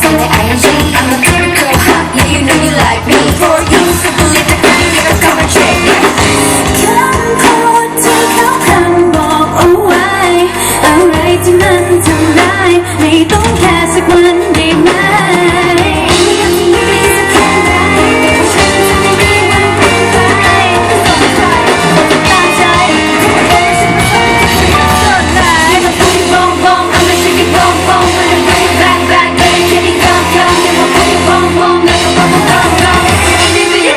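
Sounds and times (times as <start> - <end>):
female vocal group singing: 0.0 - 33.9
pop backing track with bass beat: 0.0 - 33.9.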